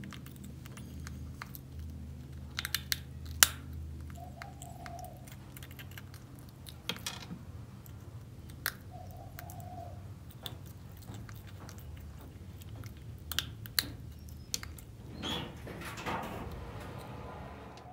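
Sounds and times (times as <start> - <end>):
monkey crunching candy: 0.0 - 14.9.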